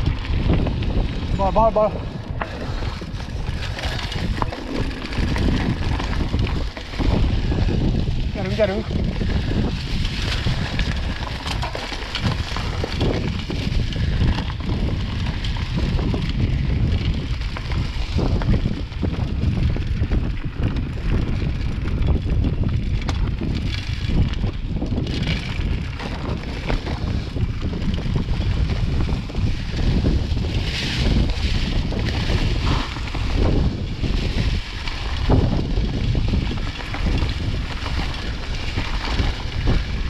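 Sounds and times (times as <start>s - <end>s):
bike rattling over bumps: 0.0s - 40.0s
tyres rumbling over dirt: 0.0s - 40.0s
wind buffeting microphone: 0.0s - 40.0s.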